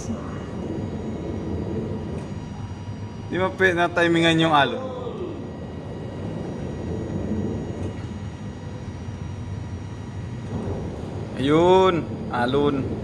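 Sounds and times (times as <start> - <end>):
wind and sea rumble: 0.0 - 3.7, 4.8 - 13.0.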